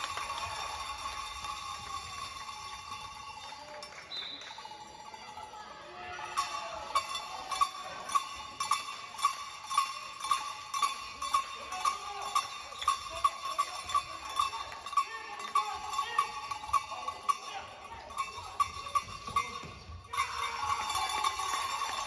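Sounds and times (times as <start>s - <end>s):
cowbell struck in steady beat: 0.0s - 3.9s, 6.1s - 22.0s.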